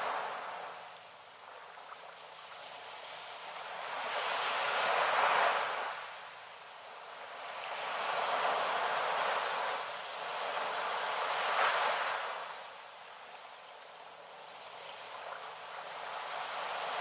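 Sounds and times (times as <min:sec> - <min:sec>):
waves washing onto sand: 0:00.0 - 0:17.0.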